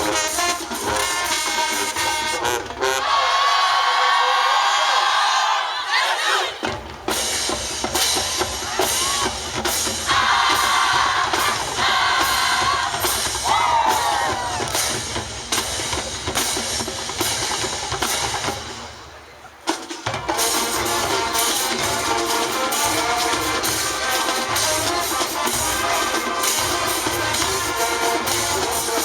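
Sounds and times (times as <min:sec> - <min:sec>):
drumline playing a cadence: 0:00.0 - 0:04.0, 0:05.0 - 0:29.0
marching band playing: 0:00.0 - 0:29.0.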